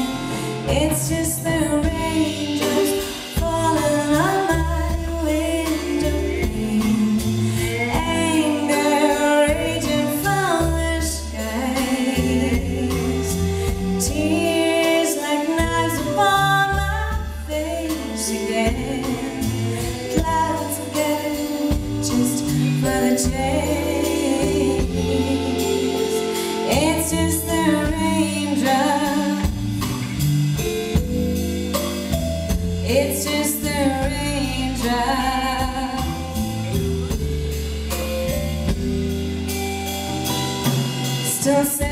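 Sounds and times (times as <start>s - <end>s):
woman singing: 0.0s - 29.8s, 32.8s - 36.4s, 41.1s - 41.9s
bass guitar: 0.0s - 41.9s
drums: 0.0s - 41.9s.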